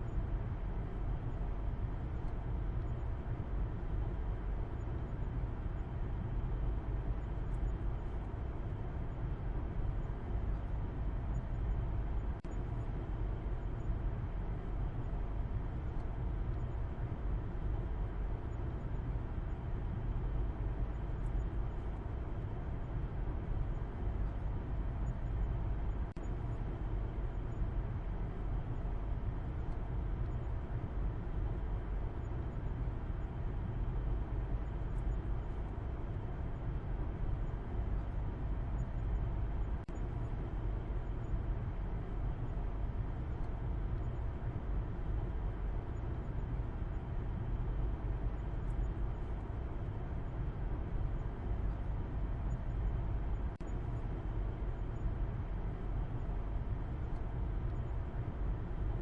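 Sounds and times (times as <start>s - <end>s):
car noise low rumble: 0.0s - 59.0s.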